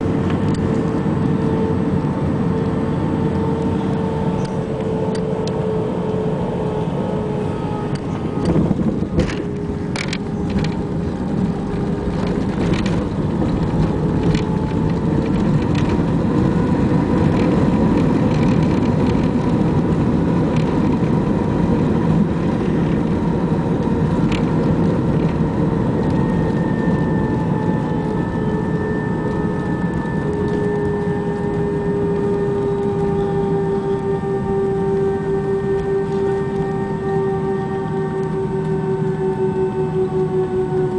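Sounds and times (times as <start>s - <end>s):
constant humming tone: 0.0s - 40.9s
jet engines and rushing air: 0.0s - 40.9s.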